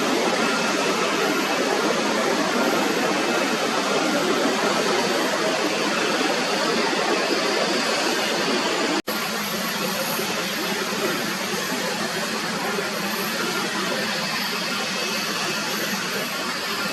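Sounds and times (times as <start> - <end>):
jet airliner engines roaring: 0.0 - 16.9.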